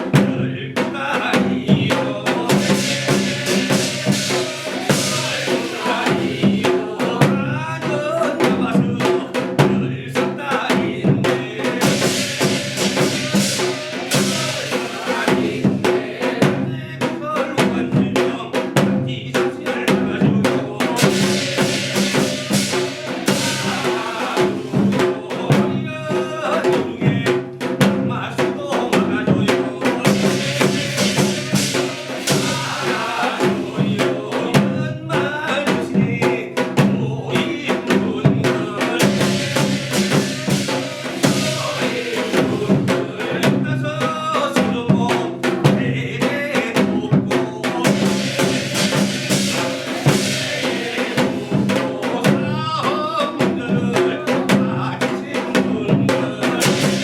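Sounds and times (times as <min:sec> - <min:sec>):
drum and percussion strikes: 0:00.0 - 0:57.0.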